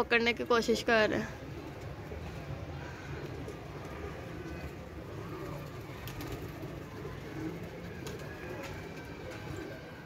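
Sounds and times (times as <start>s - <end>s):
pigeons cooing: 1.1s - 10.0s.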